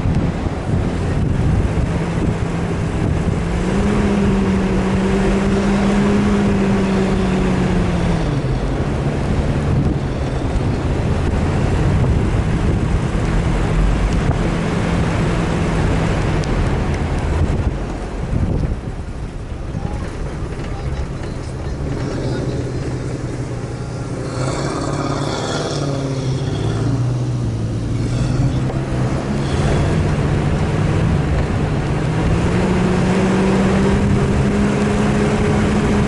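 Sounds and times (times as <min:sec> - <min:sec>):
vehicle engine running: 0:00.0 - 0:36.0
wind noise on microphone: 0:00.0 - 0:36.0.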